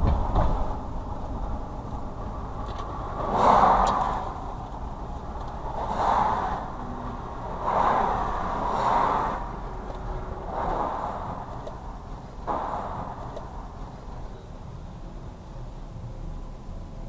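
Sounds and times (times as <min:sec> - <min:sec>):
passing traffic whooshes: 0:00.0 - 0:16.1
car cabin road rumble: 0:00.0 - 0:17.0.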